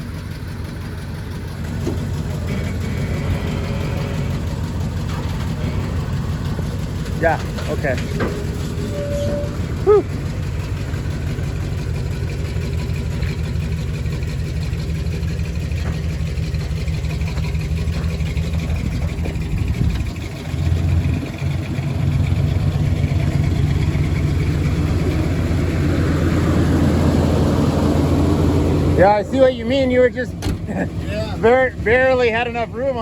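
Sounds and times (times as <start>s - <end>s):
truck engine running: 0.0s - 33.0s.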